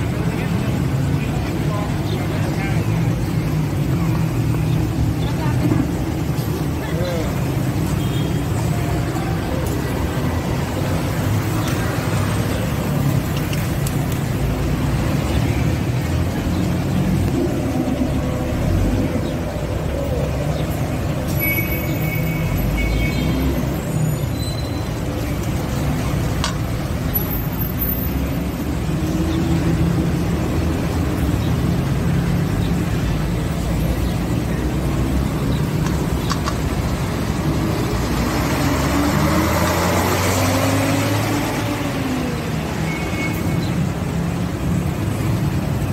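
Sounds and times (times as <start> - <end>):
passing vehicle engines: 0.0 - 45.9
road traffic rumble: 0.0 - 45.9.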